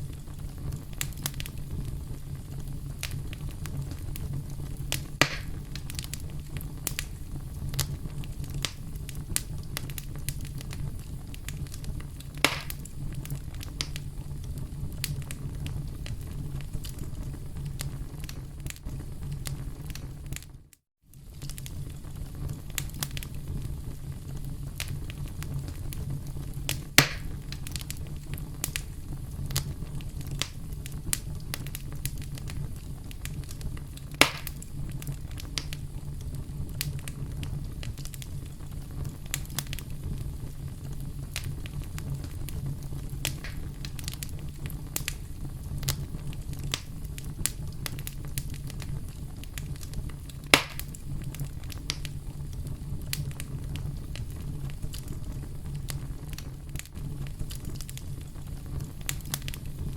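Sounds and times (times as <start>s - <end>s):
campfire crackling: 0.0s - 59.9s
loud fire pops: 0.0s - 59.9s.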